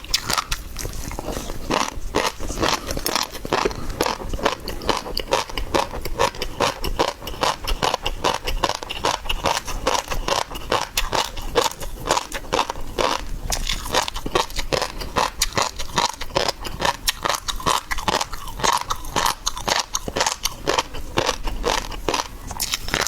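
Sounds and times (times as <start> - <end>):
close chewing and crunching: 0.0 - 23.0
wet mouth sounds: 0.0 - 23.0.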